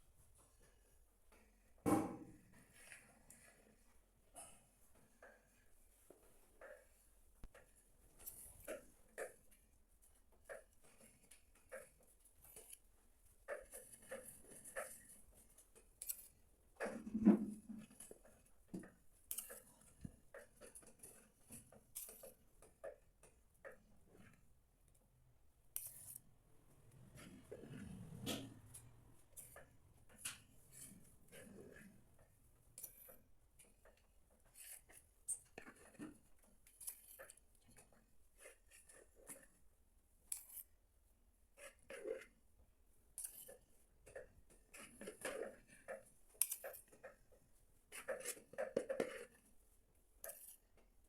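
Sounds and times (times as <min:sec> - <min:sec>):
hands working sticky dough: 0:00.0 - 0:51.0.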